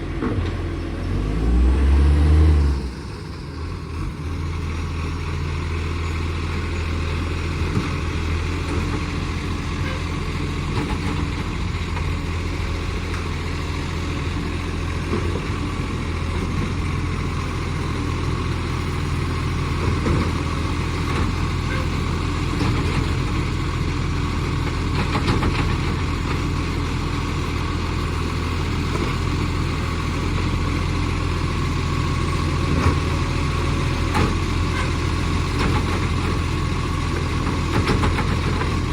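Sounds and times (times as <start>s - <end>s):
diesel engine idling with exhaust leak: 0.0s - 38.9s.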